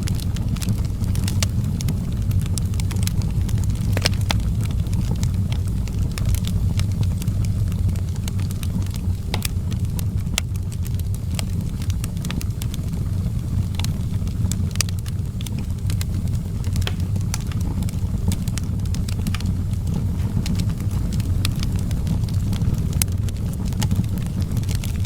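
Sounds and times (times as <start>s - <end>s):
fire low rumble: 0.0s - 25.0s
wood fire crackling and popping: 0.0s - 25.0s.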